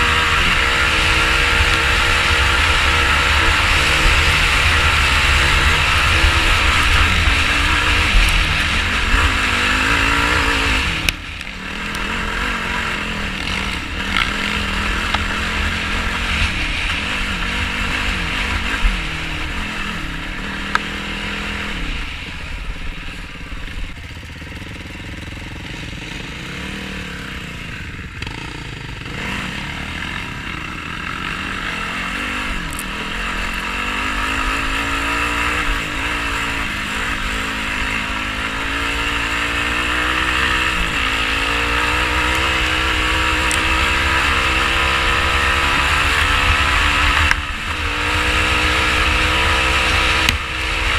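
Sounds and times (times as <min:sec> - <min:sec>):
quad engine revving: 0:00.0 - 0:22.2, 0:24.1 - 0:50.9.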